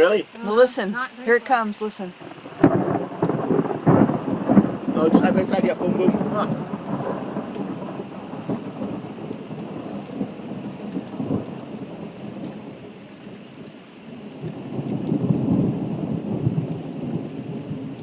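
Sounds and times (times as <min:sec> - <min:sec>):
rain falling: 0:00.0 - 0:18.0
rolling thunder: 0:02.2 - 0:12.9, 0:14.1 - 0:18.0.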